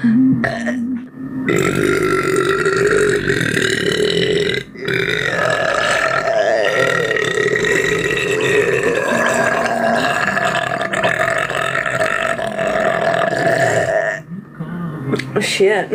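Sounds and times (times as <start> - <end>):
woman burping: 0.0 - 14.3.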